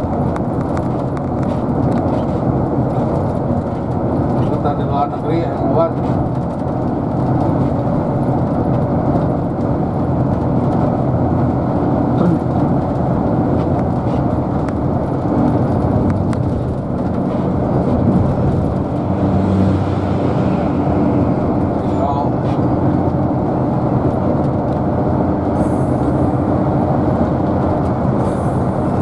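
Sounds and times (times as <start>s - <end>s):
car road noise rumble: 0.0s - 29.0s.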